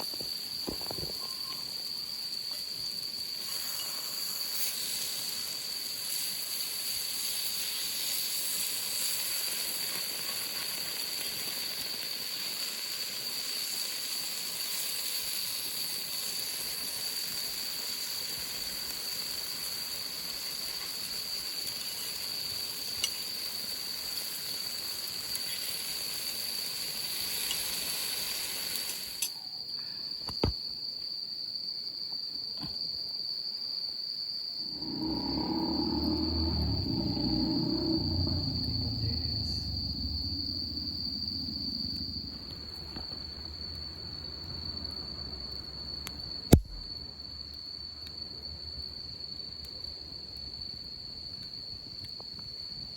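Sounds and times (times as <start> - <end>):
steady hiss: 0.0 - 47.1
crickets trilling: 0.0 - 52.9.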